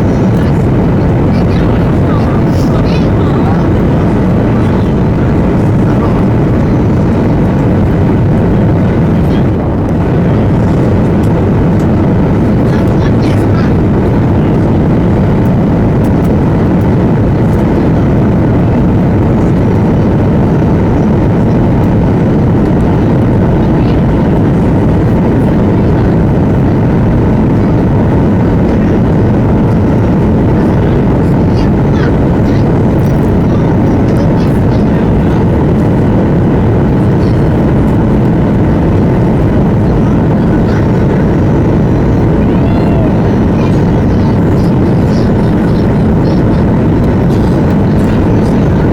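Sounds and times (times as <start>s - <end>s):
airplane cabin engine and airflow noise: 0.0s - 48.9s.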